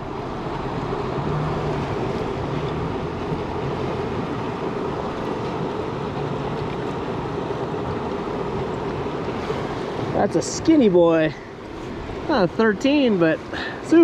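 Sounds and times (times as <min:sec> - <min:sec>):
river rushing over boulders: 0:00.0 - 0:14.0.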